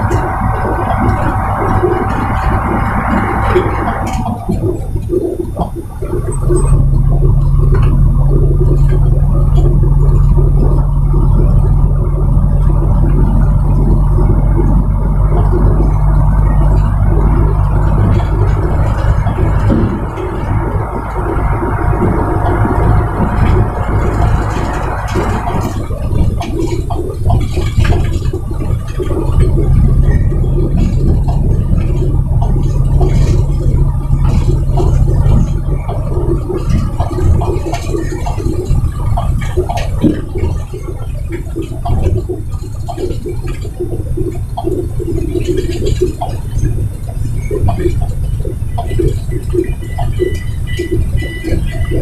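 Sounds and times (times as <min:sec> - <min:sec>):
cab rattling and knocking: 0:00.0 - 0:52.0
truck diesel engine rumbling: 0:00.0 - 0:52.0.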